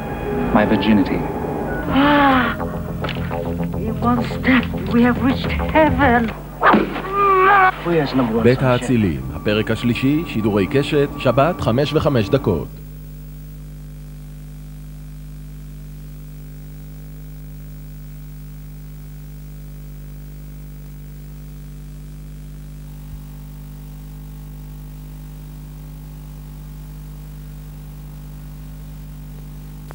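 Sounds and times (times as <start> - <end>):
electrical mains hum: 0.0 - 29.9.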